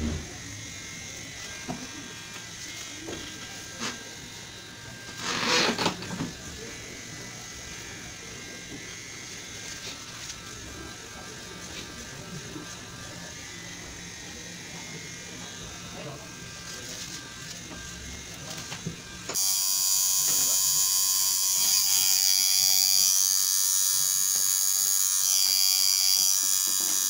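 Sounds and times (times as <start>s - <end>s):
tattoo machine buzzing: 0.0s - 27.0s.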